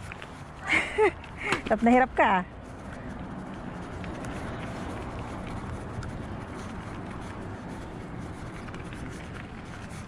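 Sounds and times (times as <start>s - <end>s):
bicycle tyres on rough road: 0.0s - 10.0s.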